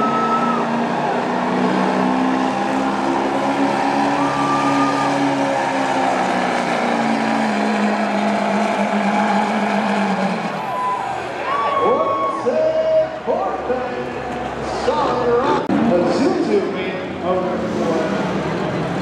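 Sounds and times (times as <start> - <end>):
diesel truck engine under load: 0.0 - 11.6, 12.4 - 19.0.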